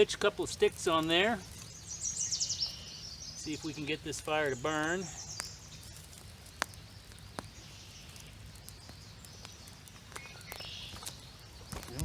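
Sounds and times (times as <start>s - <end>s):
fire crackling: 0.0s - 12.0s.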